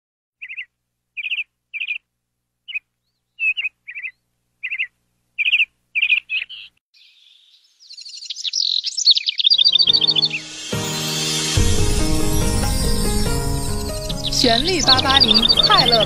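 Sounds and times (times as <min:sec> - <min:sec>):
small birds chirping: 0:00.4 - 0:10.5, 0:12.6 - 0:16.0.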